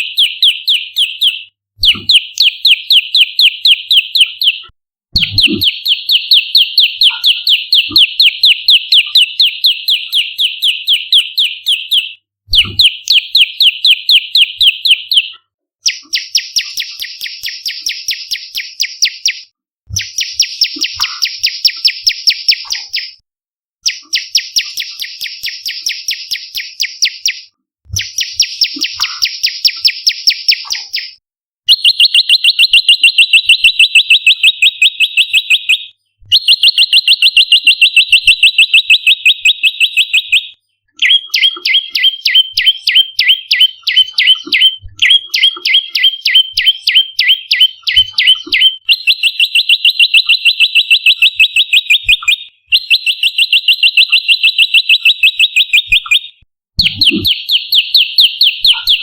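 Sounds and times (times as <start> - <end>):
bird calling sharp repeated notes: 0.0 - 23.2, 23.8 - 59.0.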